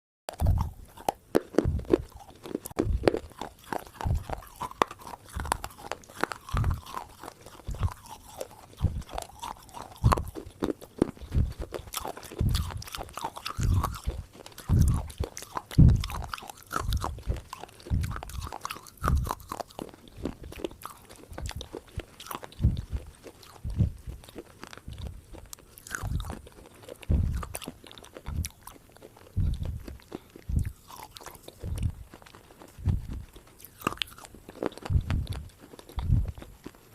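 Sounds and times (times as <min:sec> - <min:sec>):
person chewing crunchy food: 0:00.3 - 0:36.9.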